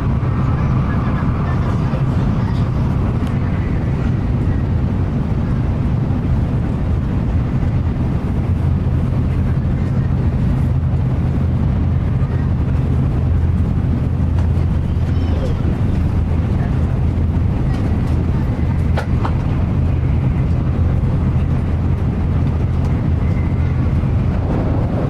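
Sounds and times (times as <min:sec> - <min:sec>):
train running heard from inside: 0:00.0 - 0:25.0.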